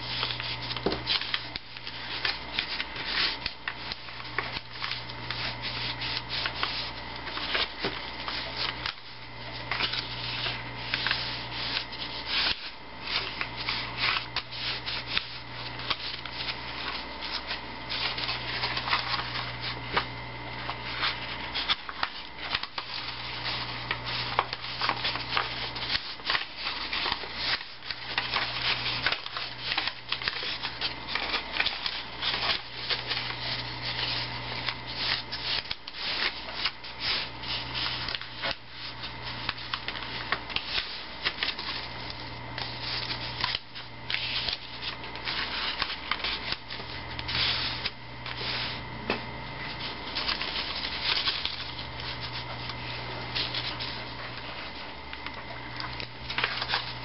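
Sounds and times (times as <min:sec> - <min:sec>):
paper rustling and creasing: 0:00.0 - 0:57.0.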